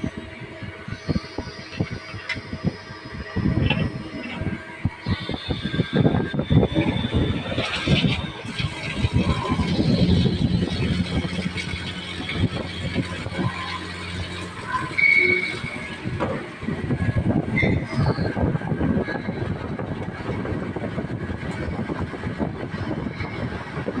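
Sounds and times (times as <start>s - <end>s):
machinery humming: 0.0s - 24.0s
machinery clattering: 3.5s - 24.0s.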